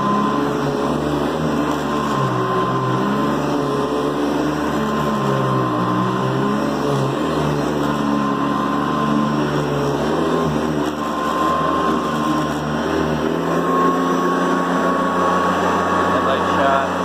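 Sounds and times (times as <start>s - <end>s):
vacuum cleaner whining: 0.0s - 17.0s.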